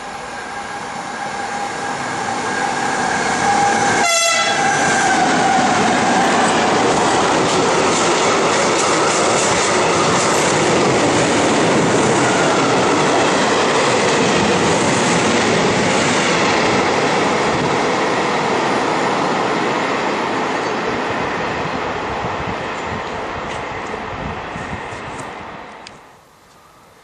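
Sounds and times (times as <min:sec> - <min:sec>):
train wheels running on rails: 0:00.0 - 0:26.9.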